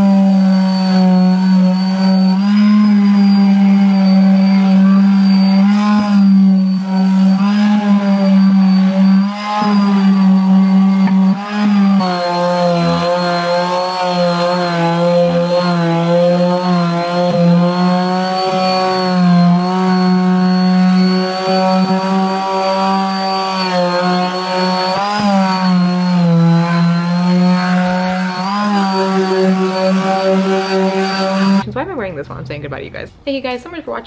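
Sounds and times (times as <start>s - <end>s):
orbital sander whine: 0.0s - 32.0s.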